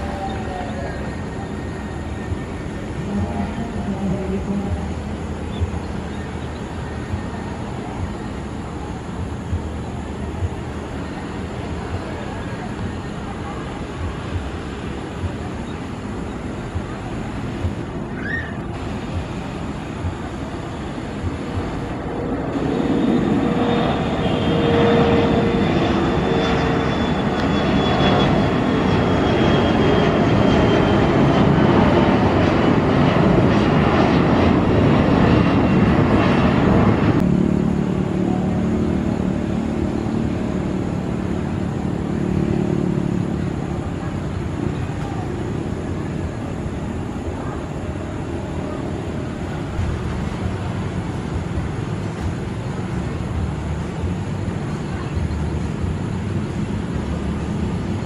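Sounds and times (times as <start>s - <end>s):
jet engines roaring with whine: 0.0s - 58.0s
turboprop humming: 0.0s - 58.0s.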